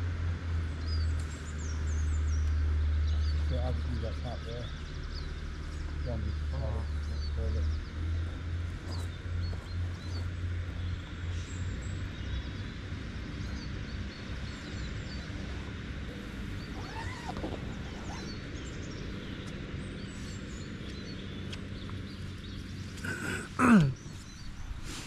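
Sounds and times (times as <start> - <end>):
birds chirping: 0.0 - 25.0
steady low rumble: 0.0 - 25.0.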